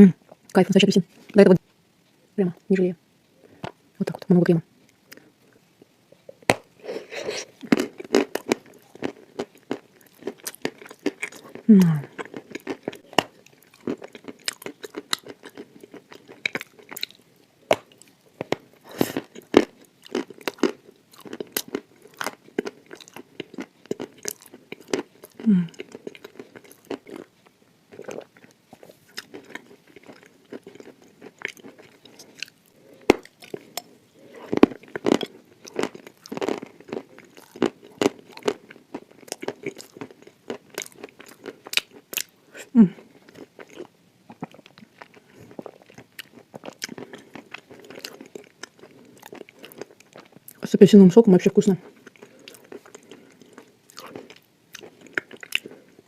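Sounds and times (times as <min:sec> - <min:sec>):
chalk crunching and chewing: 0:07.2 - 0:42.3, 0:43.0 - 0:50.6, 0:51.8 - 0:56.0.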